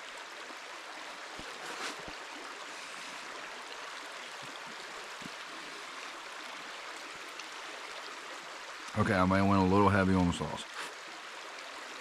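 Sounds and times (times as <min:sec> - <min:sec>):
stream rushing water: 0:00.0 - 0:12.0.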